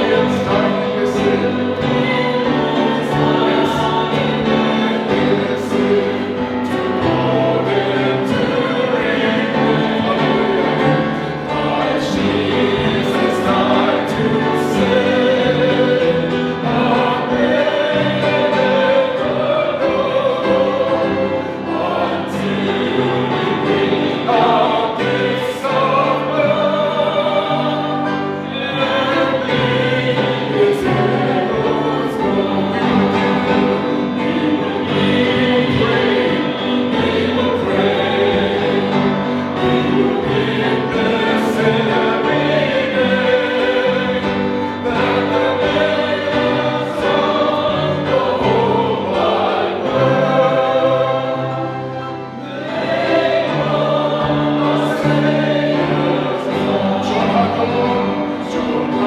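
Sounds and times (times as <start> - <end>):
church choir singing a hymn: 0.0 - 59.0
held low accompanying notes: 0.0 - 59.0.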